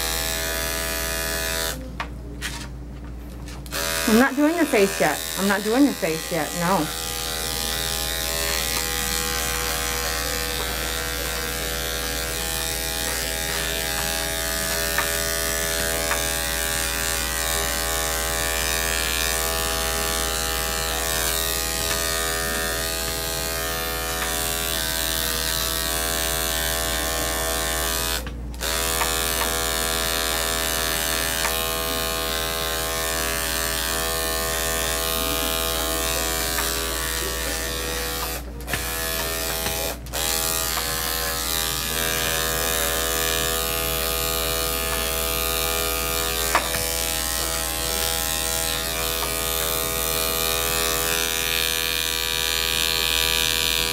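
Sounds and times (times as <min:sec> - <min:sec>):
electric clipper buzzing hum: 0:00.0 - 0:01.9, 0:03.6 - 0:53.9.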